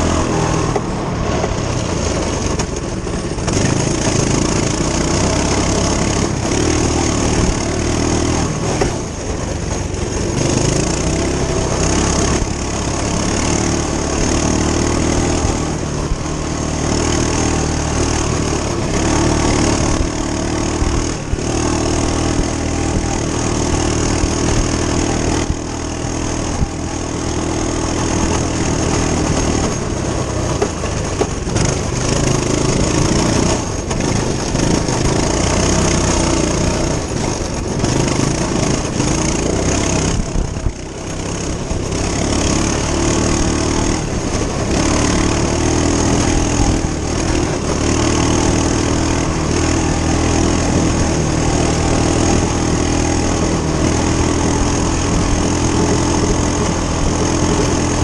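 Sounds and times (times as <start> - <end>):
minibike engine under load: 0.0 - 58.0.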